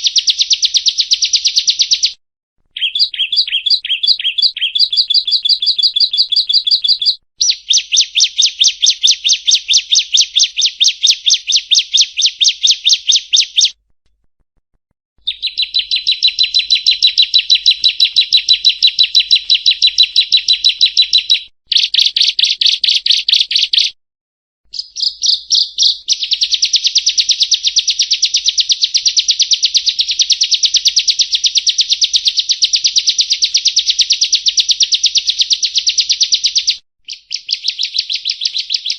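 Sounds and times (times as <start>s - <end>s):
bird singing rapid rattling song: 0.0s - 13.8s, 15.2s - 24.0s, 24.7s - 38.9s.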